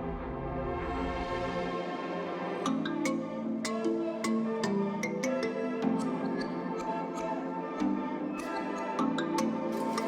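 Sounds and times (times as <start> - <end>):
melodic background music: 1.2 - 10.0.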